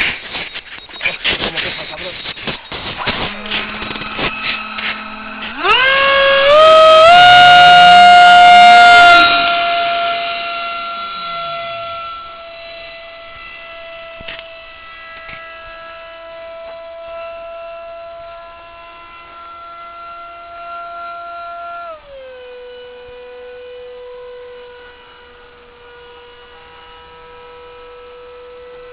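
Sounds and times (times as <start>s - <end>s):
electric ducted fan whine: 0.0s - 28.9s.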